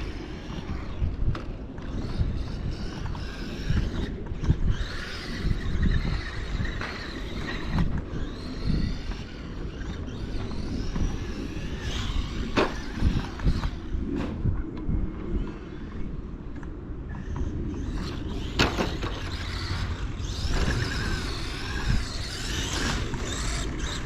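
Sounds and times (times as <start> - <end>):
rc truck electric motor whining: 0.0 - 14.5, 15.3 - 24.0.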